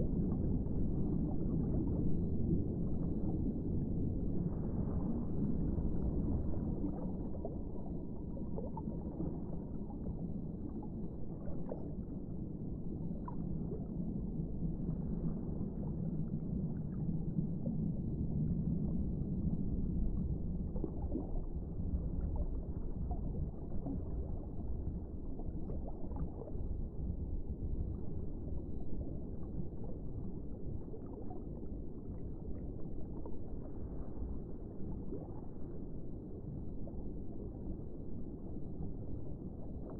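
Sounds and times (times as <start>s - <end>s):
muffled underwater rush: 0.0s - 39.9s.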